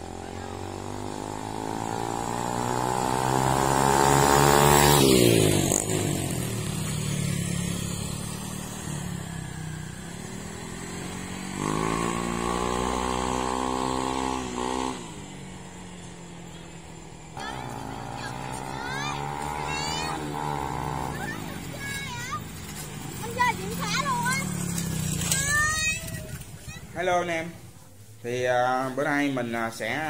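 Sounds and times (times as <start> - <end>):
second engine revving up: 0.0 - 26.5
motorbike engine accelerating past: 0.0 - 27.0.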